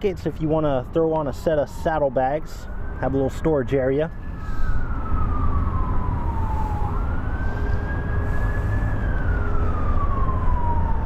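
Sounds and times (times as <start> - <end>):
emergency siren wailing: 0.1 - 11.0.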